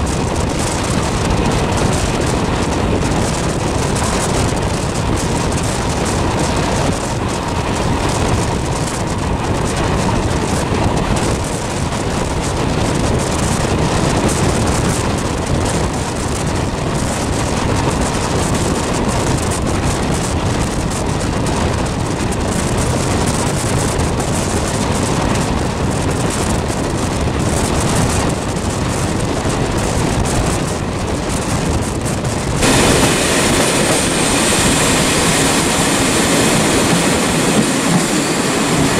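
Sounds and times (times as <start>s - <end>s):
vehicle running noise: 0.0s - 38.9s.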